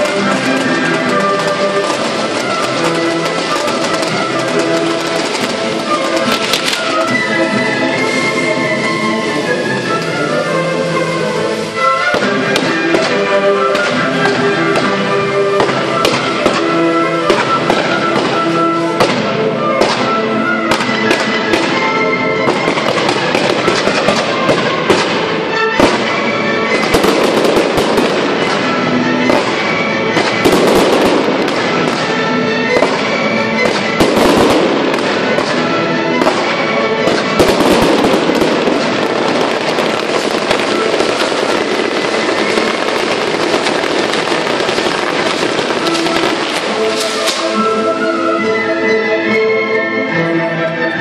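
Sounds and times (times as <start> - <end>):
fireworks bangs and crackles: 0.0 - 49.4
music playing: 0.0 - 51.0.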